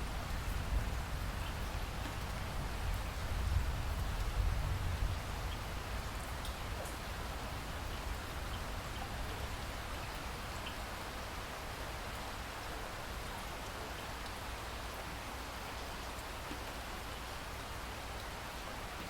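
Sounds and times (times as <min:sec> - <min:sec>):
rain falling on a lake: 0:00.0 - 0:19.0.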